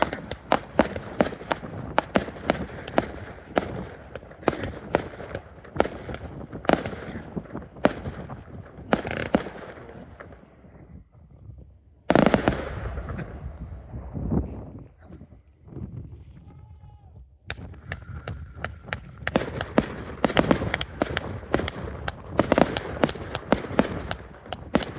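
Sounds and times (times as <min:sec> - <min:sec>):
fireworks banging: 0:00.0 - 0:10.7, 0:12.1 - 0:14.0, 0:17.5 - 0:24.9.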